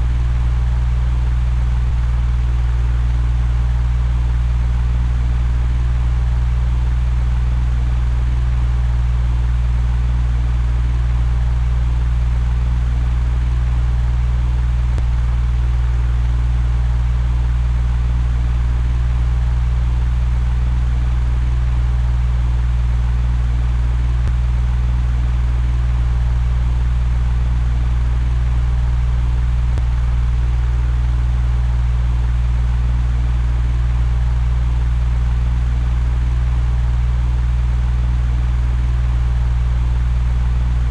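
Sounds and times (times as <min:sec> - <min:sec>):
electric fan humming: 0:00.0 - 0:40.9.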